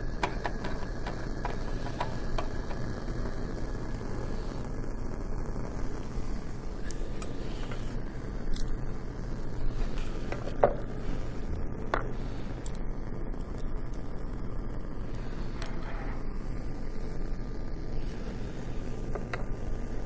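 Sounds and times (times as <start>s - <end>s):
bunsen burner flame rushing: 0.0s - 20.0s.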